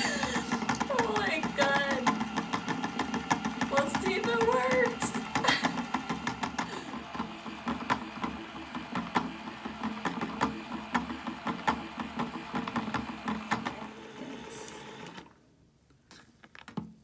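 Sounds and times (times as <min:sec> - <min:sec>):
small motor hum: 0:00.0 - 0:15.3.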